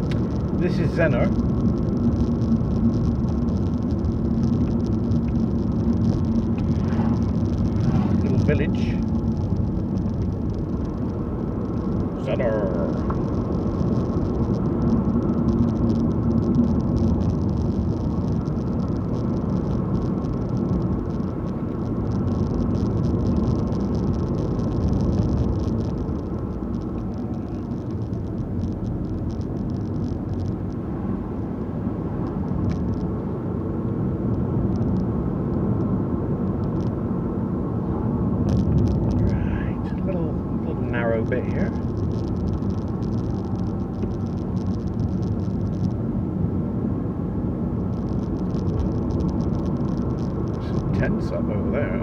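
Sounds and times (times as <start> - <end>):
car engine: 0.0 - 52.0
tyre road noise: 0.0 - 52.0.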